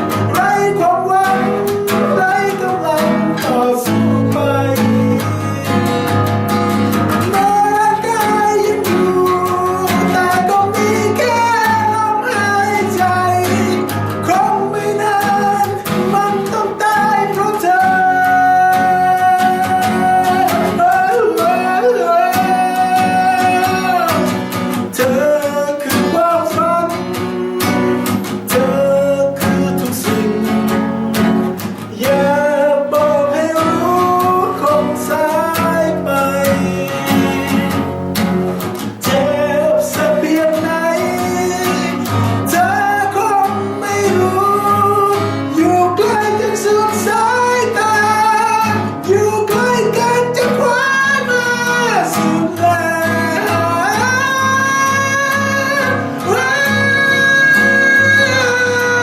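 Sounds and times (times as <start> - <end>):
acoustic guitar lead melody: 0.0 - 59.0
strummed guitar chords: 0.0 - 59.0.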